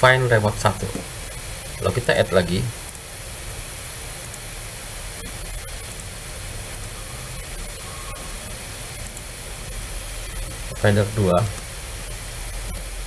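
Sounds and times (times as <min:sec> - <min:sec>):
microphone hiss: 0:00.0 - 0:13.0.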